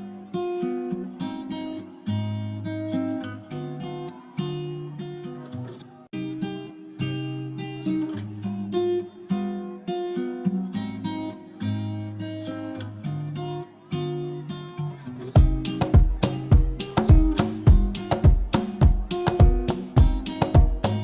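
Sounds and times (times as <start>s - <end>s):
acoustic guitar plucking melody: 0.0s - 21.0s
acoustic guitar strumming: 0.0s - 21.0s.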